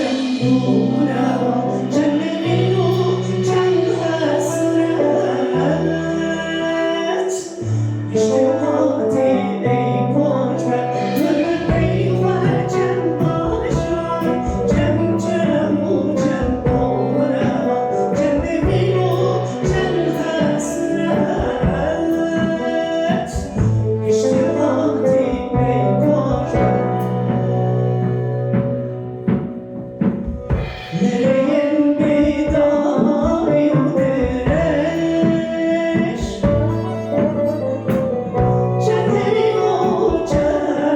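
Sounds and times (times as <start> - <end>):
drum kit with cymbals: 0.0 - 9.3, 10.5 - 40.9
clarinet: 0.0 - 40.9
guitar: 0.0 - 40.9
held bass line: 0.0 - 40.9
violin: 0.0 - 40.9
woman singing: 0.0 - 40.9.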